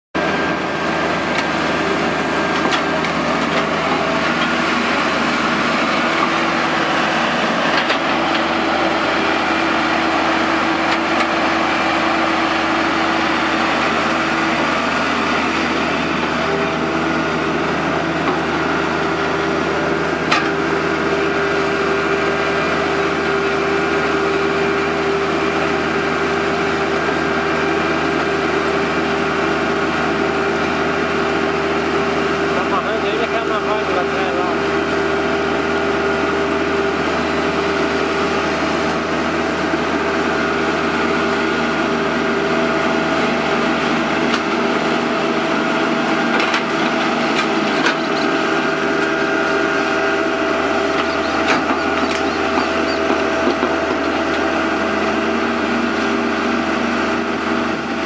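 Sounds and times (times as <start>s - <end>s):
excavator diesel engine: 0.2s - 58.0s.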